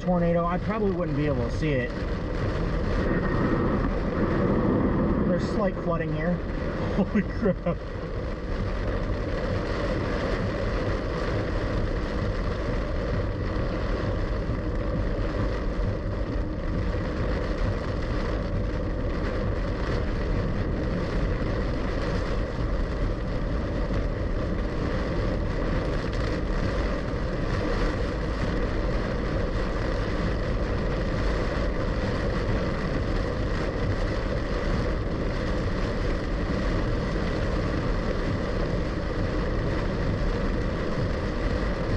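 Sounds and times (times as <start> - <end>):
heavy rain on a car: 0.0 - 41.9.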